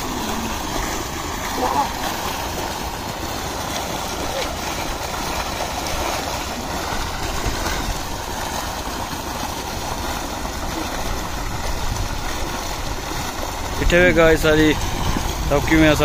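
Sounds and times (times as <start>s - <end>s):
water churning and splashing: 0.0s - 16.0s
water gushing from pipe into tank: 0.0s - 16.0s.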